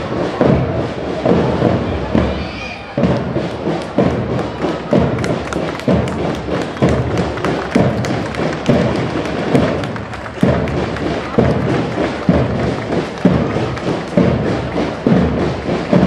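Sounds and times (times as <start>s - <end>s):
bass drum thumps: 3.0s - 16.0s.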